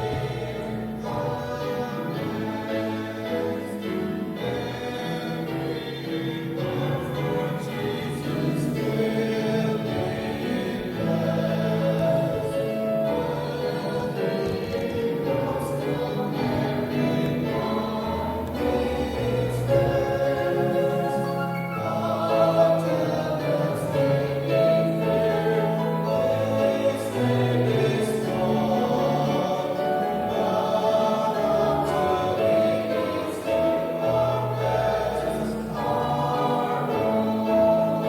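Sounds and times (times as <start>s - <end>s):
choir singing a hymn: 0.0s - 38.0s.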